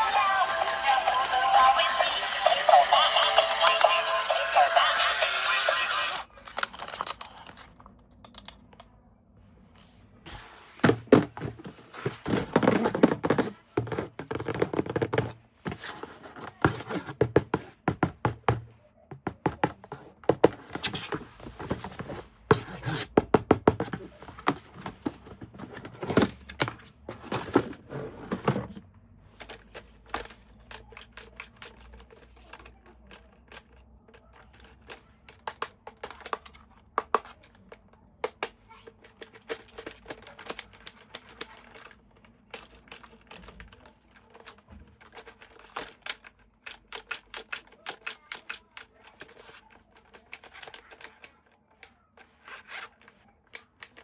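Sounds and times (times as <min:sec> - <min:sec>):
toy handling clicks and knocks: 0:01.0 - 0:05.4, 0:06.4 - 0:08.9, 0:10.8 - 0:54.0.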